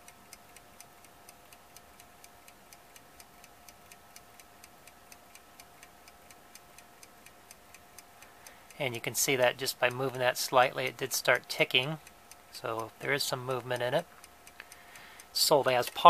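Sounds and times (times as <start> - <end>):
alarm clock ticking: 0.0 - 16.0
faint steady hum: 0.0 - 16.0.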